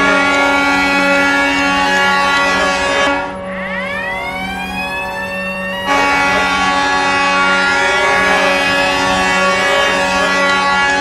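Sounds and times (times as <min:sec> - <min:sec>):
goal horn blaring: 0:00.0 - 0:11.0
siren wail: 0:00.0 - 0:11.0.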